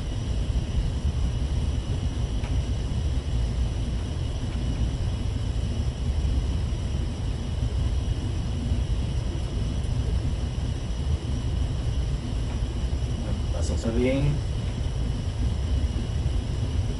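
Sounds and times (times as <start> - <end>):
ship machinery rumble: 0.0 - 16.9.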